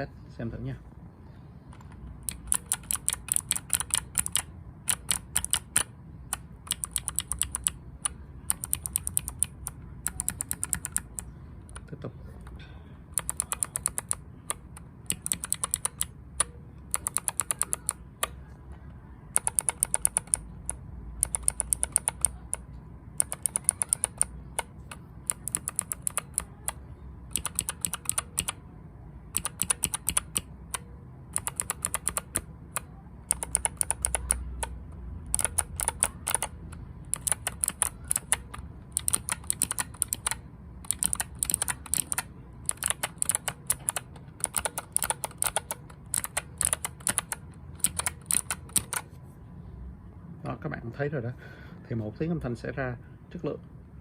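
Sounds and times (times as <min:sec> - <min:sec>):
mechanical keyboard typing: 0:01.7 - 0:11.9, 0:13.1 - 0:18.5, 0:19.3 - 0:28.6, 0:29.3 - 0:49.2.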